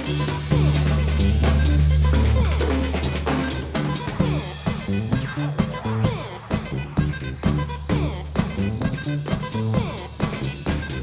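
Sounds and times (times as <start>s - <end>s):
drum kit steady beat: 0.0s - 11.0s
stepping bass line: 0.0s - 11.0s.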